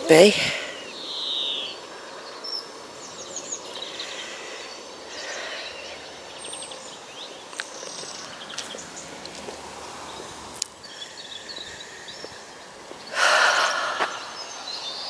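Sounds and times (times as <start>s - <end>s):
small birds chirping: 0.0s - 15.0s
steady background hush: 1.8s - 15.0s.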